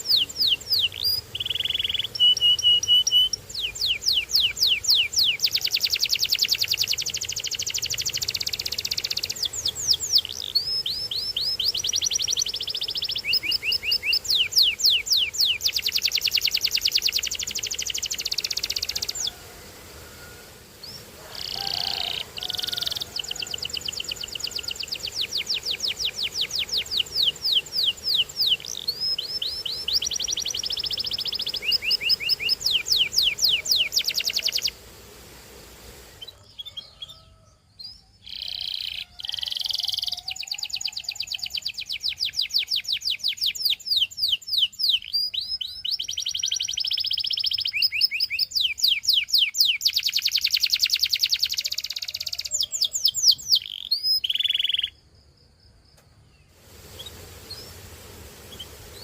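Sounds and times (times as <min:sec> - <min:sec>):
canary singing trills: 0:00.0 - 0:19.4, 0:20.1 - 0:34.8, 0:36.2 - 0:55.1.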